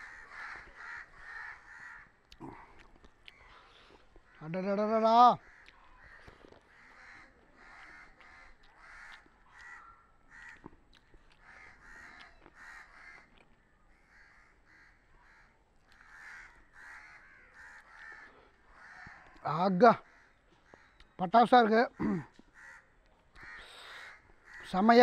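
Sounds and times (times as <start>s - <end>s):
faint crows cawing: 0.0s - 25.0s.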